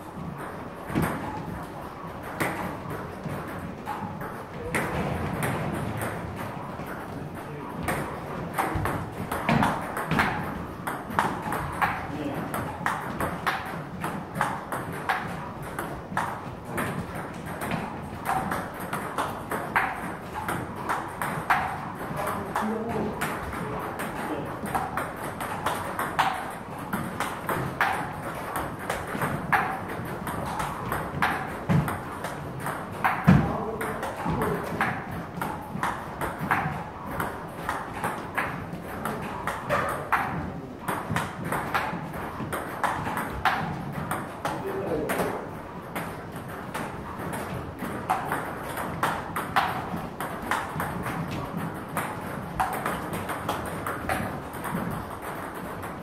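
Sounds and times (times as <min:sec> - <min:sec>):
ping pong ball hitting paddles: 0:00.0 - 0:56.0
ball bouncing on table: 0:00.2 - 0:56.0.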